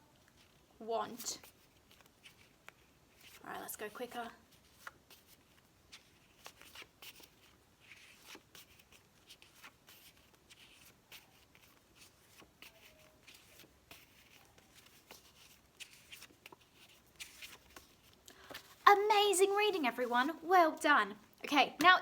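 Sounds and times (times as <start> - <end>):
flashcards rustling and clicking: 0.1 - 20.4.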